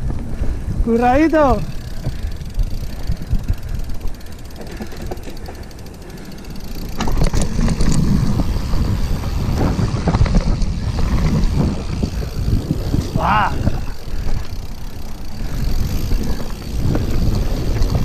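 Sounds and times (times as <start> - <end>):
bike rattling and knocking: 0.0 - 18.0
wind buffeting the microphone: 0.0 - 18.0
tyres rumbling on dirt: 1.2 - 18.0.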